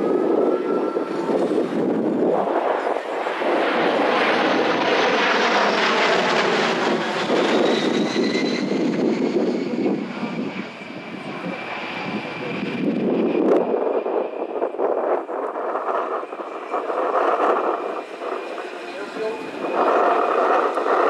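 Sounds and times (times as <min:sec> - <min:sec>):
jet flying past: 0:00.0 - 0:21.0.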